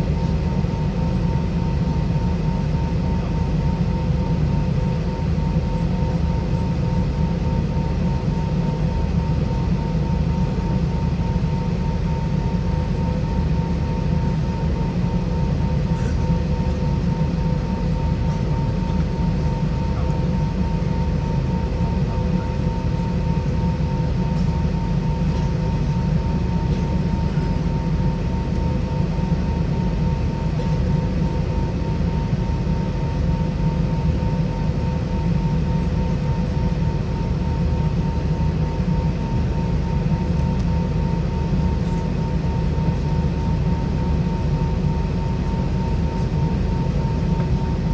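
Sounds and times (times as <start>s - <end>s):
aircraft cabin rumble: 0.0s - 47.9s.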